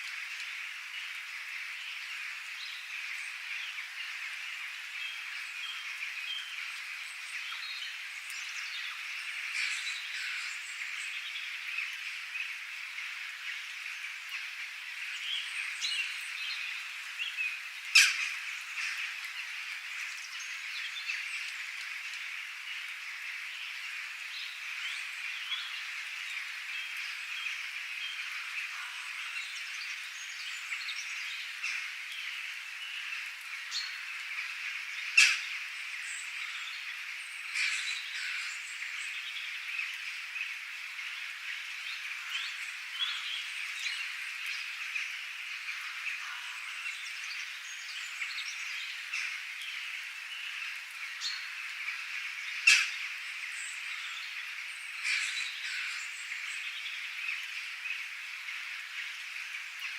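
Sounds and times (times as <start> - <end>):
frogs chorus: 0.0 - 59.9.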